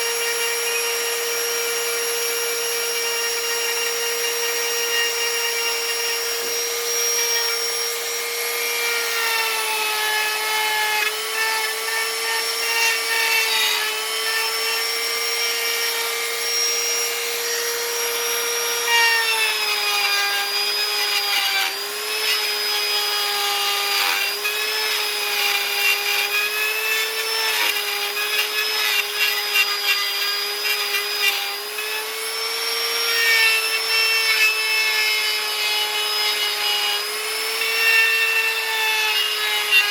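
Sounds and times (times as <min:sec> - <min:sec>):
electric carving tool whining: 0:00.0 - 0:39.9.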